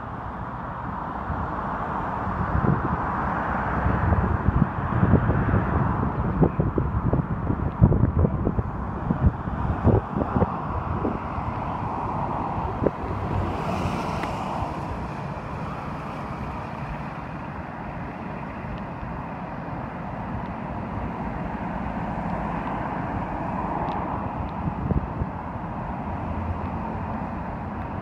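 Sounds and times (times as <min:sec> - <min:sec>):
cars passing on road: 0:00.0 - 0:28.0
wind rumble on microphone: 0:00.0 - 0:28.0.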